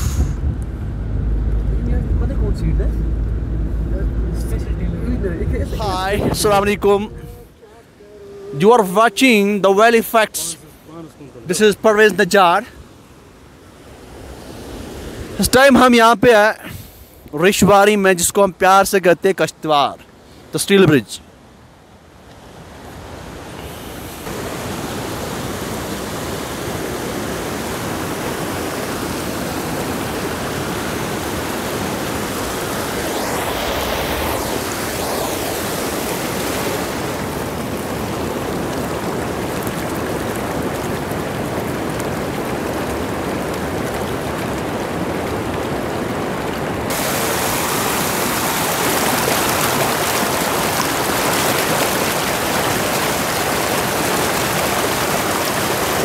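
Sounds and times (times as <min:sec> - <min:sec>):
mountain stream rushing over rocks: 0:05.6 - 0:56.0.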